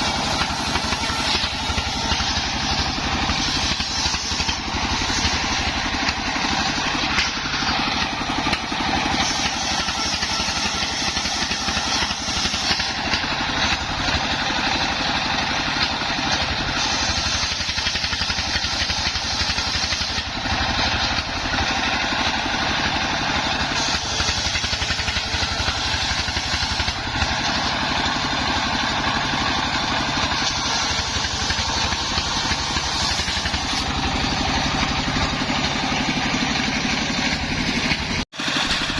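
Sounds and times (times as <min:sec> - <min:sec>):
circular sawmill cutting timber: 0:00.0 - 0:38.9
engine beat: 0:00.0 - 0:38.9.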